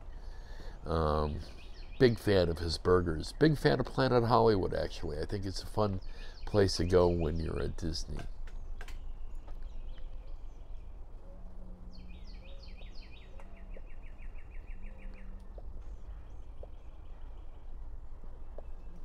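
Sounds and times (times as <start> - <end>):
faint low hum: 0.0 - 19.0
low background noise: 0.0 - 19.0
songbirds calling and trilling: 0.0 - 19.0.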